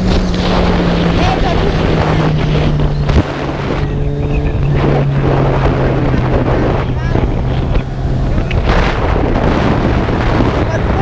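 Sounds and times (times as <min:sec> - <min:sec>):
motorcycle engine cruising: 0:00.0 - 0:11.0
wind buffeting microphone: 0:00.0 - 0:11.0.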